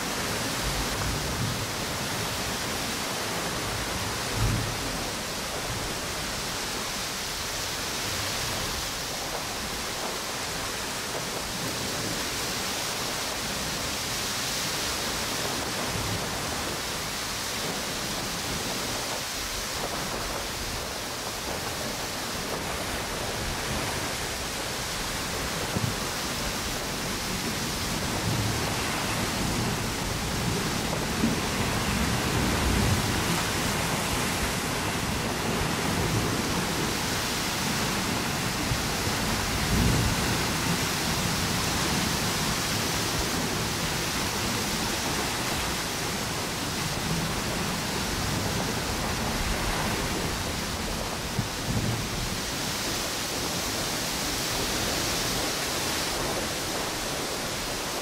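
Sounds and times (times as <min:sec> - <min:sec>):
gusting wind rumbles: 0:00.0 - 0:58.0
waves breaking: 0:00.0 - 0:58.0
wind through palm trees: 0:00.0 - 0:58.0.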